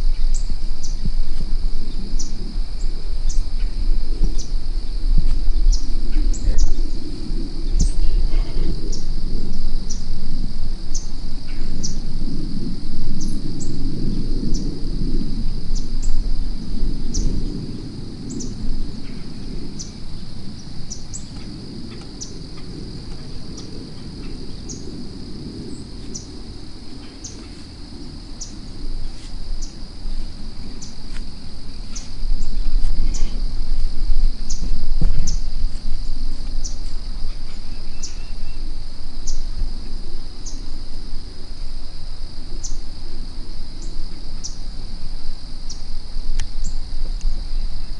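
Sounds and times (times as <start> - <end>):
high insect drone: 0.0 - 47.9
low rumbling noise: 0.0 - 47.9.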